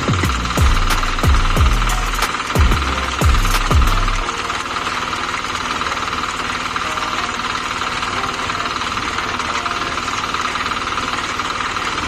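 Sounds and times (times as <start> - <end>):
small engine knocking steadily: 0.0 - 12.0.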